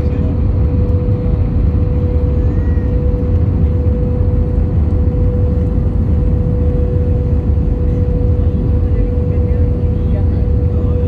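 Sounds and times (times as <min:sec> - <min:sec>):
airliner cabin rumble: 0:00.0 - 0:11.0
constant hum: 0:00.0 - 0:11.0.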